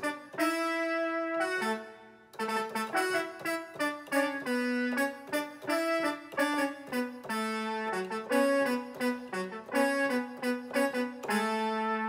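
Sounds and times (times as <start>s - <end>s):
synthesizer brass melody: 0.0s - 12.0s.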